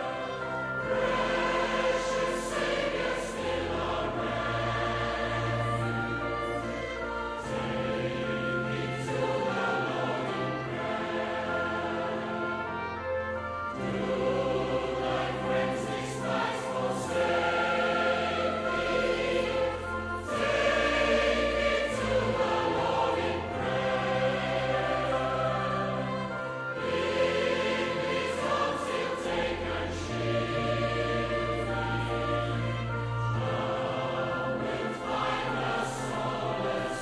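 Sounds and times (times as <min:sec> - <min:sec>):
choir singing held chords: 0:00.0 - 0:37.0.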